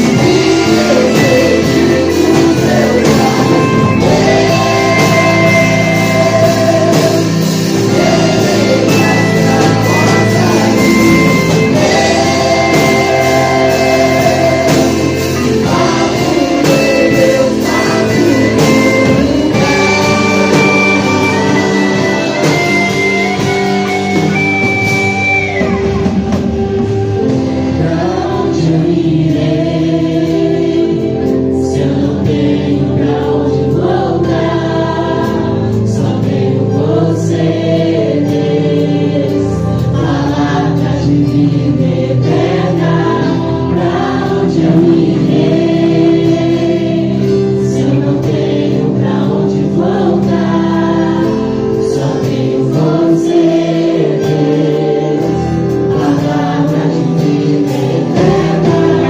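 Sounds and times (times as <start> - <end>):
choir singing worship music: 0.0 - 59.0
instrumental backing: 0.0 - 59.0.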